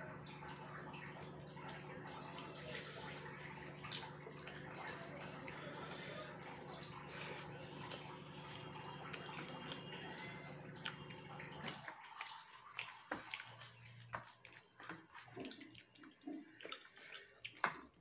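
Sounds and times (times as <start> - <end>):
wet chewing: 0.7 - 18.0.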